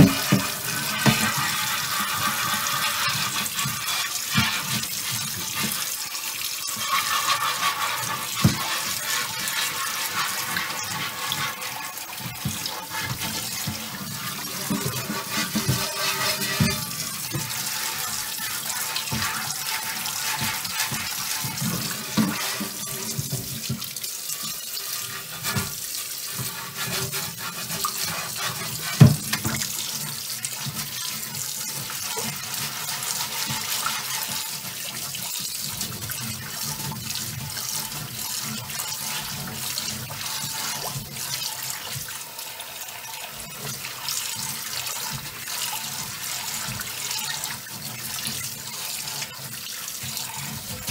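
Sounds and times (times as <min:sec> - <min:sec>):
tap water splashing in sink: 0:00.0 - 0:50.9.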